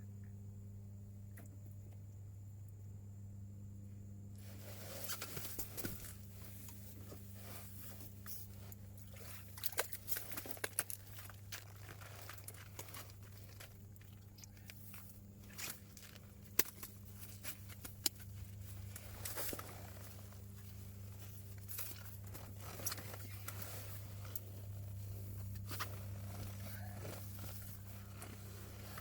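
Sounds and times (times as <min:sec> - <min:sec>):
steady low hum: 0:00.0 - 0:29.0
crunches and crinkles of handling: 0:04.4 - 0:29.0.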